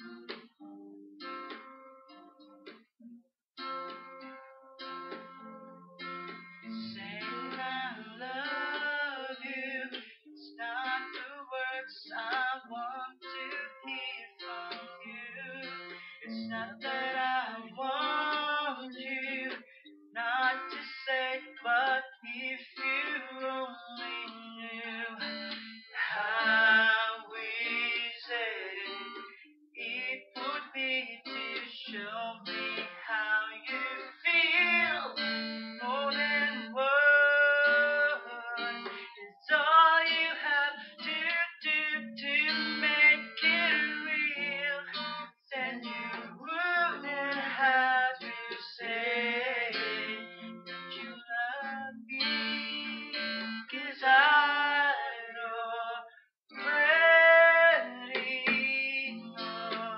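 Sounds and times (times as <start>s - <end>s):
acoustic guitar: 0.0s - 59.9s
man singing a slow ballad: 6.8s - 19.6s, 20.2s - 35.2s, 35.8s - 50.4s, 51.0s - 59.9s.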